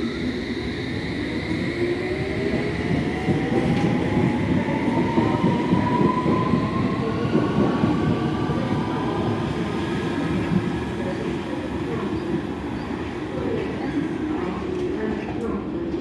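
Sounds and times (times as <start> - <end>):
train wheels rumbling on track: 0.1 - 16.0.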